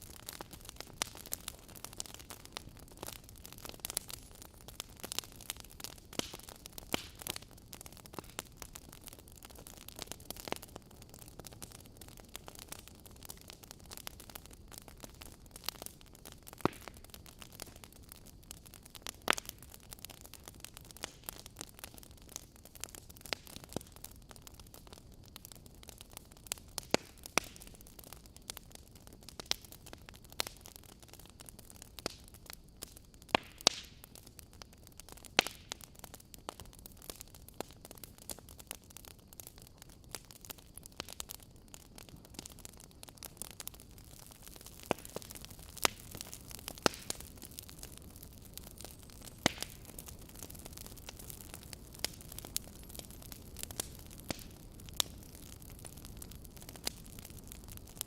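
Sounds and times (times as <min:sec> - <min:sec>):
low steady hiss: 0:00.0 - 0:58.0
wood fire crackling and popping: 0:00.0 - 0:58.0.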